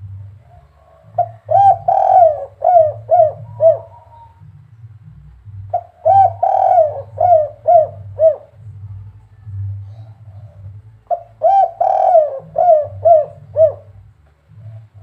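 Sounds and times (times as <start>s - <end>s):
dove cooing: 0.0s - 15.0s
steady low hum: 0.0s - 15.0s.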